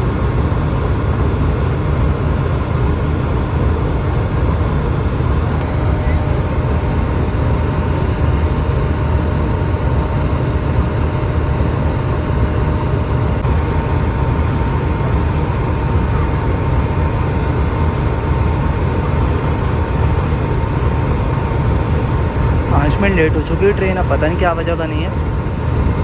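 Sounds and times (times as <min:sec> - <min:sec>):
faint steady whine: 0:00.0 - 0:26.0
locomotive idling rumble: 0:00.0 - 0:26.0.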